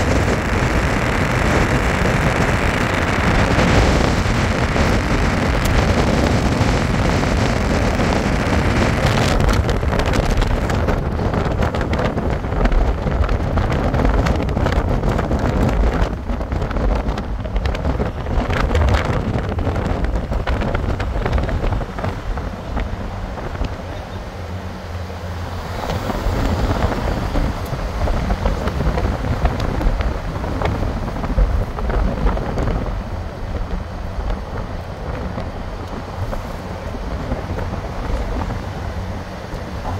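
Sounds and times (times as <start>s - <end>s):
car road noise: 0.0s - 39.9s
wind buffeting microphone: 0.0s - 39.9s.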